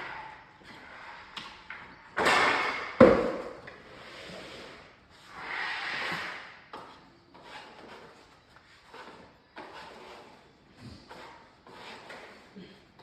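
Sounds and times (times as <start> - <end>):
floorboards scraping: 0.0 - 13.0.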